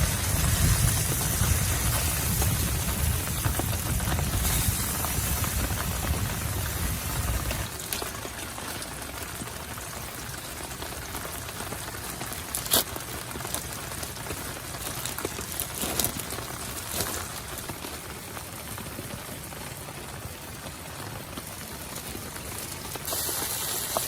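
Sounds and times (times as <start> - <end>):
heavy rain on a tent: 0.0 - 24.0.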